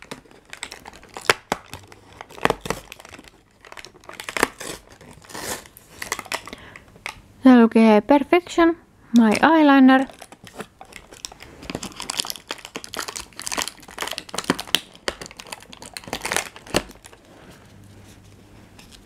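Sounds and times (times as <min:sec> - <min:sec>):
packaging crinkling and rustling: 0:00.0 - 0:07.2, 0:09.2 - 0:19.0.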